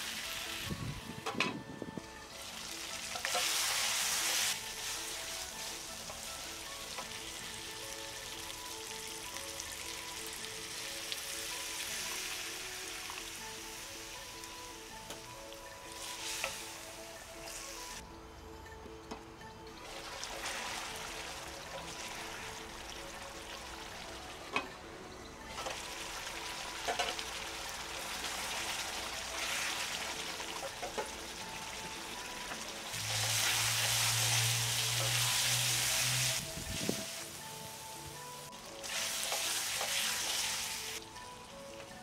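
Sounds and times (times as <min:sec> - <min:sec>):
curry sizzling and bubbling: 0:02.2 - 0:18.0, 0:19.8 - 0:24.7, 0:25.5 - 0:42.0.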